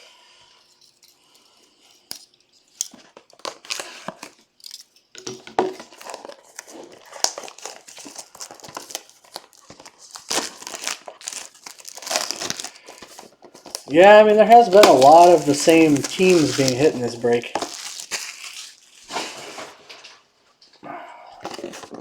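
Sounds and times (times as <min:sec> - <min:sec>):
shrink wrap crinkling and tearing: 0:01.9 - 0:20.1.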